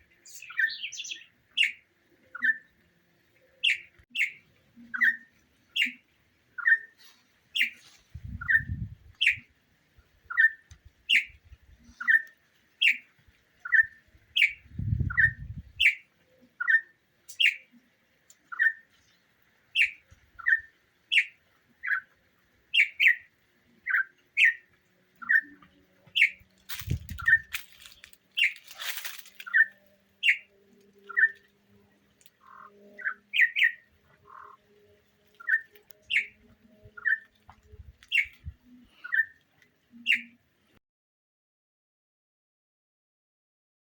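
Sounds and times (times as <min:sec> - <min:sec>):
songbird chirping: 0:00.0 - 0:40.8.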